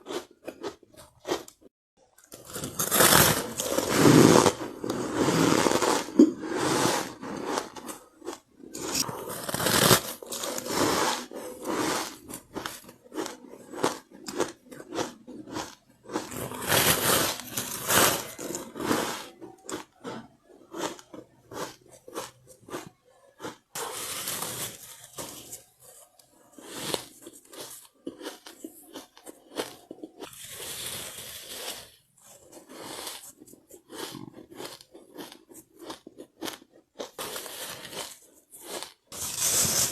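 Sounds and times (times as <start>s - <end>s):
ice being chewed and crunched: 0.0s - 39.9s.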